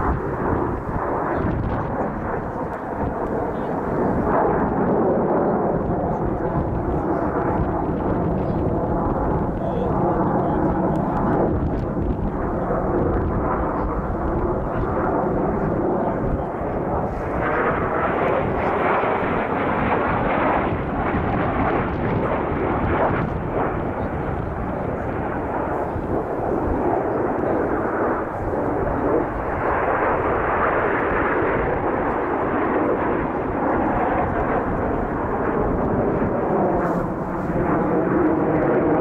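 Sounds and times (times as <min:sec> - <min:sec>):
jet engines rushing: 0:00.0 - 0:39.0.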